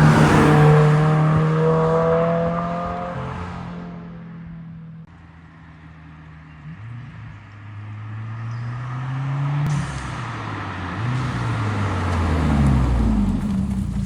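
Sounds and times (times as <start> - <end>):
car engine accelerating: 0.0 - 5.1, 5.8 - 14.0.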